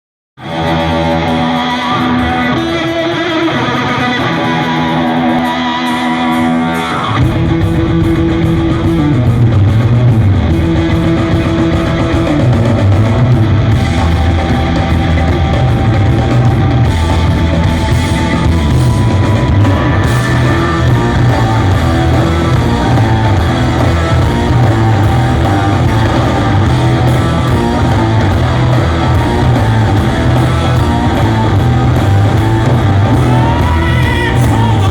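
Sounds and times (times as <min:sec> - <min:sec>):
bass: 0:00.4 - 0:34.9
drums: 0:00.4 - 0:34.9
guitar riff: 0:00.4 - 0:34.9.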